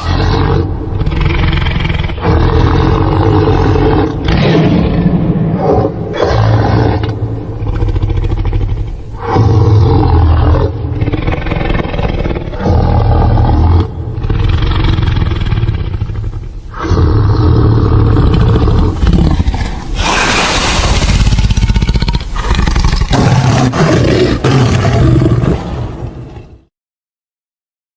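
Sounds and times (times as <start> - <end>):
deep loud animal roars: 0.0 - 26.7.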